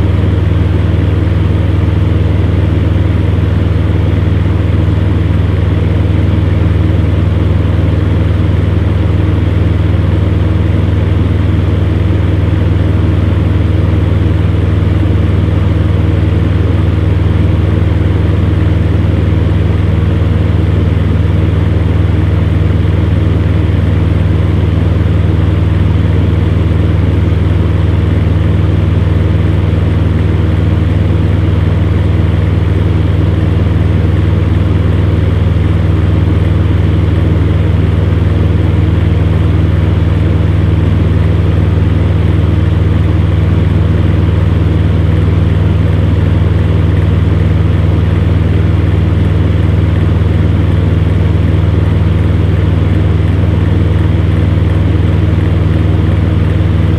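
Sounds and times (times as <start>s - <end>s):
electric fan humming: 0.0s - 56.9s.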